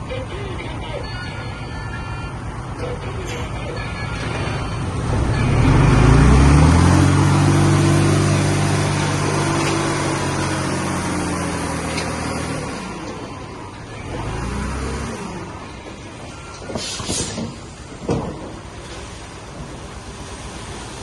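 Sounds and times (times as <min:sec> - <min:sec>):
low engine rumble: 0:00.0 - 0:21.0
diesel engine revving: 0:02.3 - 0:21.0.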